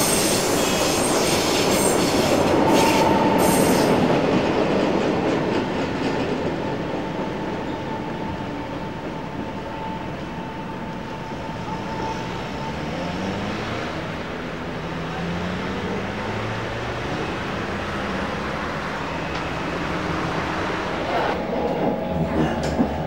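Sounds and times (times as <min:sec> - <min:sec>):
train wheels rumbling on rail: 0:00.0 - 0:12.6, 0:16.0 - 0:23.0.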